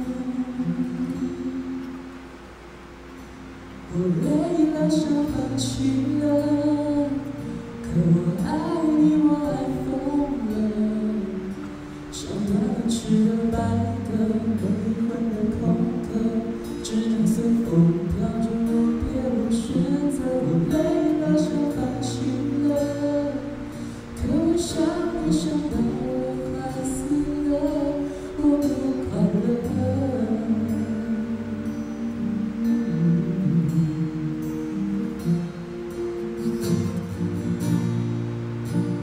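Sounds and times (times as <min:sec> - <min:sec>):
person singing: 0:00.0 - 0:02.1, 0:03.8 - 0:35.6
acoustic guitar: 0:00.0 - 0:39.0.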